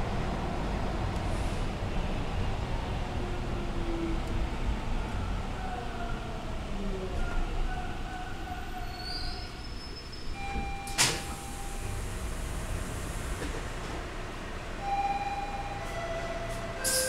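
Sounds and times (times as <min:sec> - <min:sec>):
subway train equipment humming: 0:00.0 - 0:17.0.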